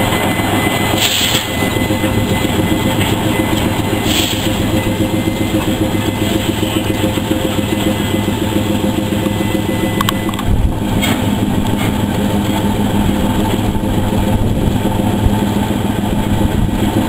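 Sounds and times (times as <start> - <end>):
engine running with pulsing beat: 0.0 - 17.0.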